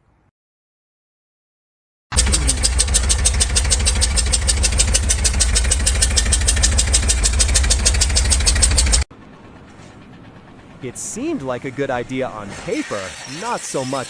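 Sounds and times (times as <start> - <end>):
engine-driven machine pulsing: 2.1 - 14.0.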